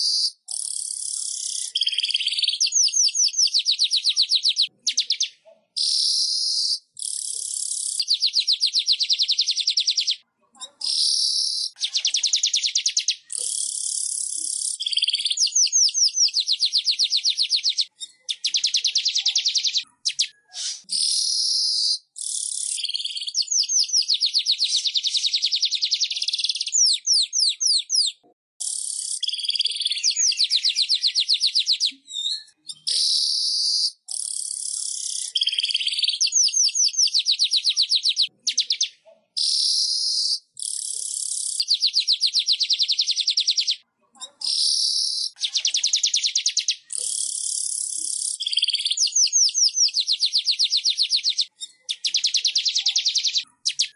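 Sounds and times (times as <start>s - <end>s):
bird chattering trills: 0.0s - 32.0s, 32.6s - 43.8s, 44.5s - 53.9s.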